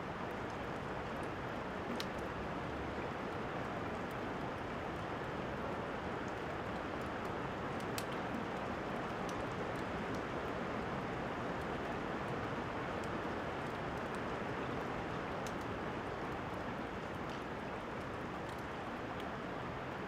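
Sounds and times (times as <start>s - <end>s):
steady rain: 0.0s - 20.0s
fire crackles: 0.2s - 20.0s.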